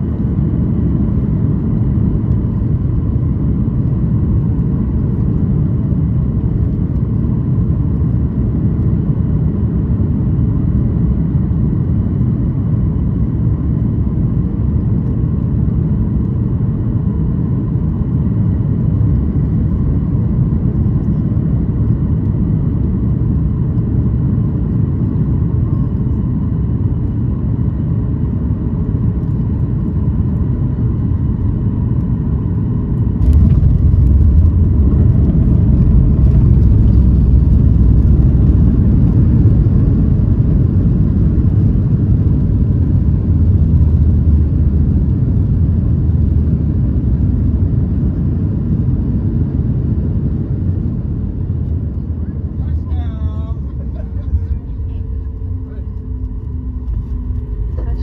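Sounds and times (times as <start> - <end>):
airplane cabin rumble: 0.0 - 58.0
faint jet engine tones: 0.0 - 58.0.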